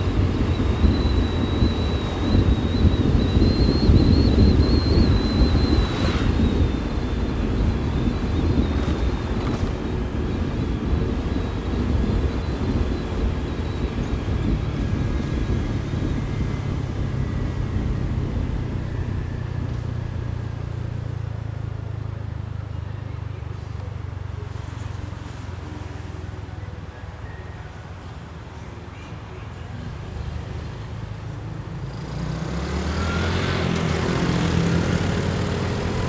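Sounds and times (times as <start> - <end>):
road and wind rush: 0.0 - 36.0.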